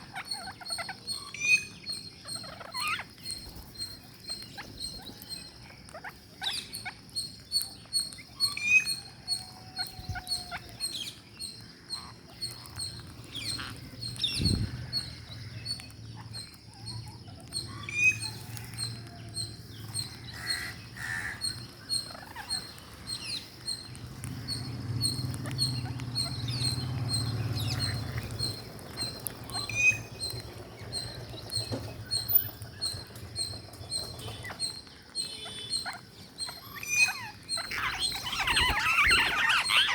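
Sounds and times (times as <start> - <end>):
parakeet chirps: 0.0 - 39.9
parakeet beaks crunching food: 2.3 - 39.9.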